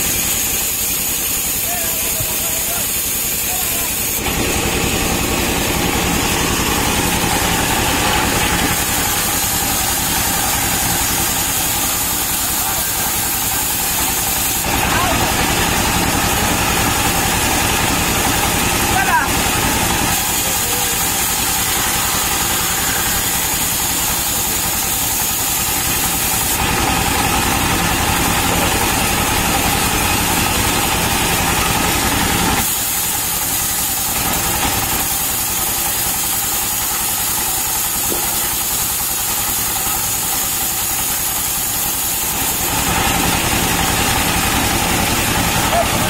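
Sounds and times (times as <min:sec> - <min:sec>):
saw blade hissing through wood: 0:00.0 - 0:28.4, 0:32.6 - 0:45.7
diesel engine running: 0:00.0 - 0:46.0.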